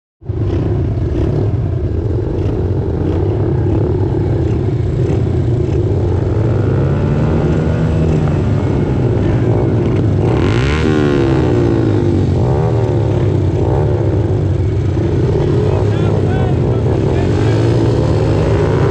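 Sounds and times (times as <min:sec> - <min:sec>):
small motorbike engines revving: 0:00.2 - 0:18.9.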